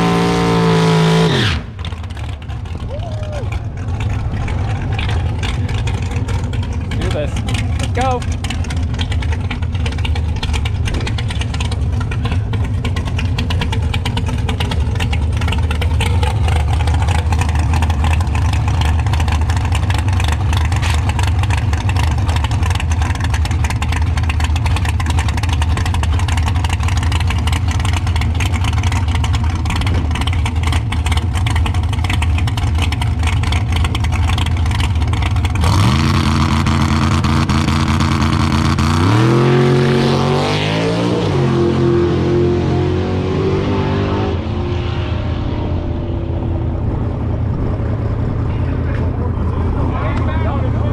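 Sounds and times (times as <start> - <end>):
car engine running and revving: 0.0 - 50.9.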